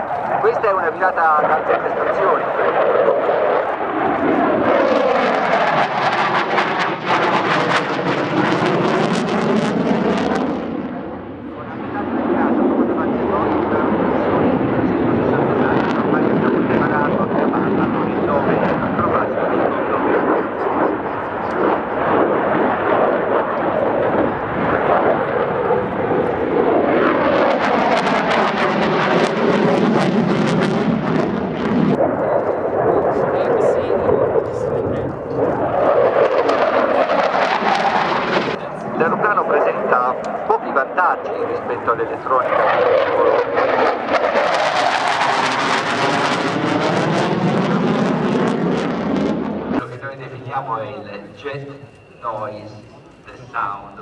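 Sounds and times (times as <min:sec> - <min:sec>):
fighter jet passing overhead: 0:00.0 - 0:54.0.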